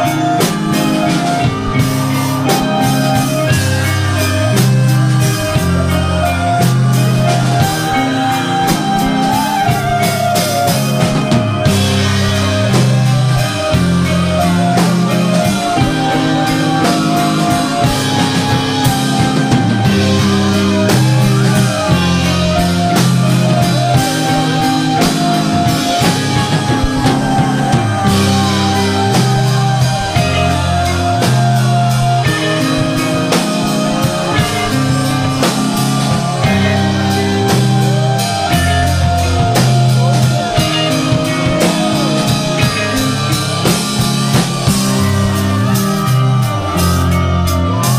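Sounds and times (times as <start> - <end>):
distorted guitars and bass riff: 0.0 - 47.9
driving drum kit: 0.0 - 47.9.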